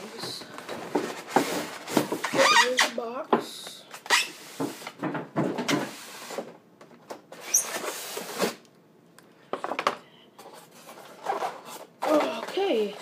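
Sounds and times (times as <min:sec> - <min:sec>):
cardboard and plastic rustling: 0:00.0 - 0:03.0, 0:03.9 - 0:08.6, 0:09.6 - 0:13.0.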